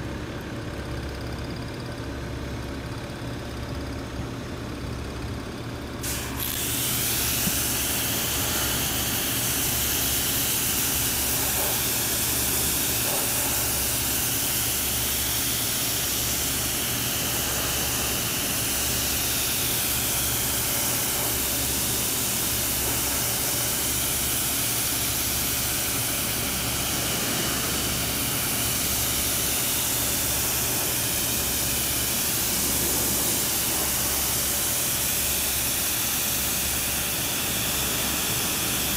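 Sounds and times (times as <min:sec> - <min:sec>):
pressure washer jet hissing: 0:06.0 - 0:38.9.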